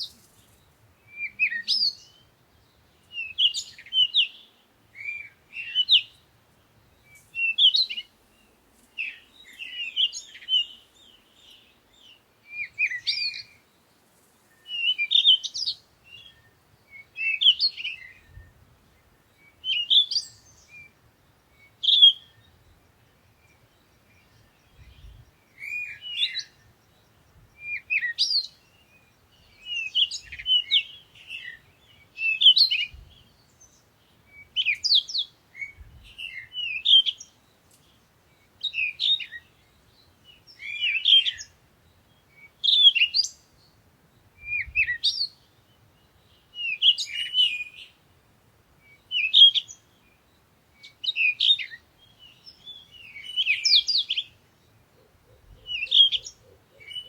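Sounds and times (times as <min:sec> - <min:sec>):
songbird twittering: 0:00.0 - 0:13.9, 0:14.5 - 0:48.0, 0:48.8 - 0:57.0.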